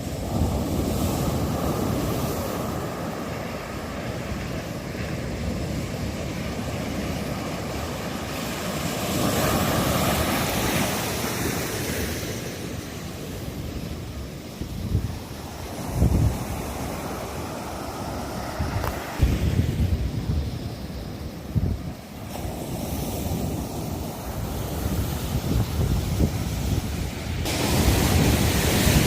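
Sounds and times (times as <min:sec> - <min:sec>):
ocean surf breaking: 0:00.0 - 0:29.0
wind buffeting microphone: 0:00.0 - 0:29.0.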